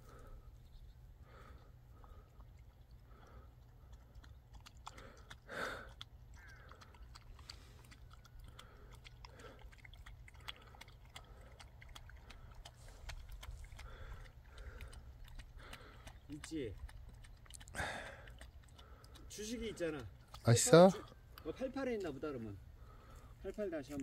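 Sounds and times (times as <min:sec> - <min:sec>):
dog chewing and crunching: 0:02.0 - 0:24.0.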